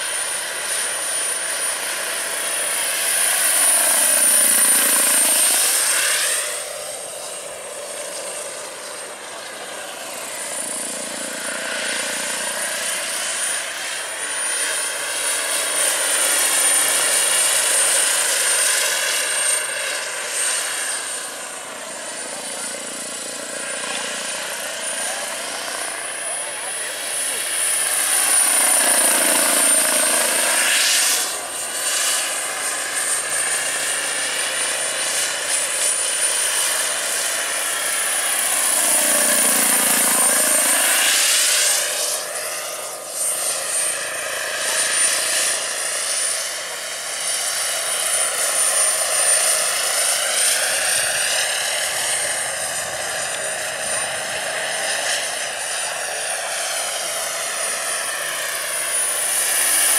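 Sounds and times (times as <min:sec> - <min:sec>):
model turbine engine whining: 0:00.0 - 0:59.9.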